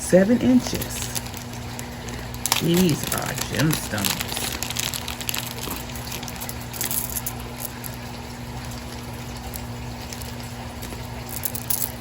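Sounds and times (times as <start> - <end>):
low electrical hum: 0.0 - 12.0
packaging clicks and rustles: 0.6 - 12.0.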